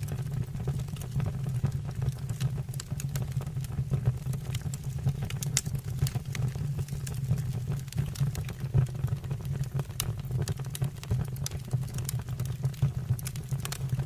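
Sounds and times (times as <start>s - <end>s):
burning wood crackling and popping: 0.0s - 14.0s
wood fire rumbling: 0.0s - 14.0s.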